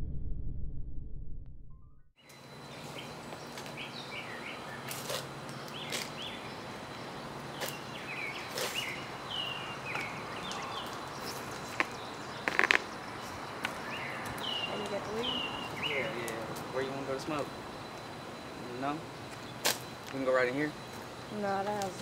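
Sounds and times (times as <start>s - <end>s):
small birds chirping: 2.2s - 22.0s.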